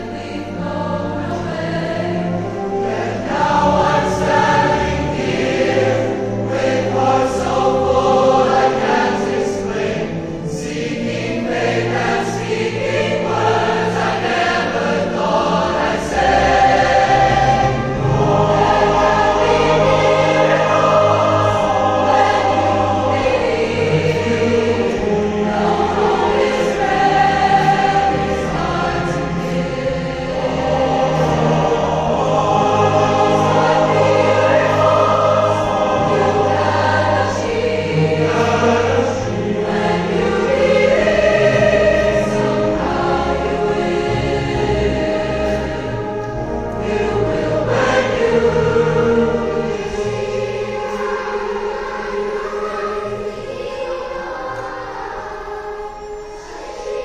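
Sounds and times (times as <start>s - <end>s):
mass choir singing in harmony: 0.0s - 57.0s
orchestral accompaniment: 0.0s - 57.0s.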